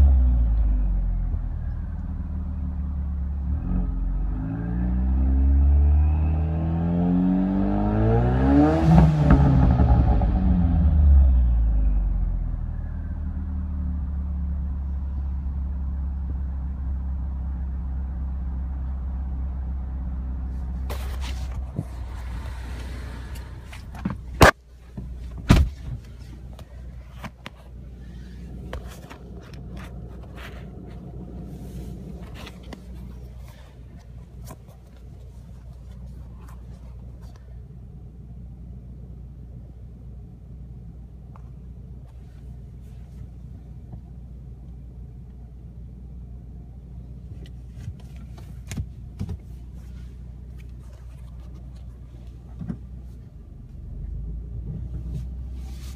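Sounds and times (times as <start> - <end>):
car engine revving and idling: 0.0 - 55.9.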